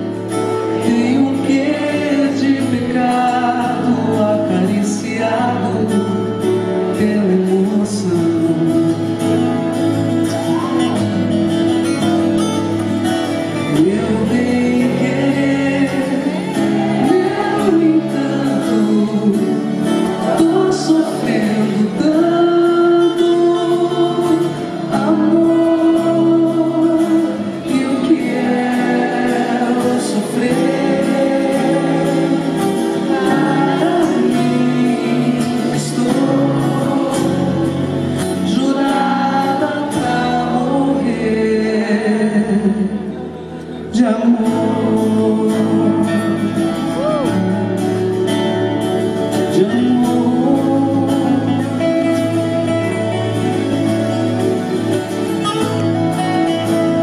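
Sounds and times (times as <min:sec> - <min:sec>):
acoustic guitar: 0:00.0 - 0:57.0.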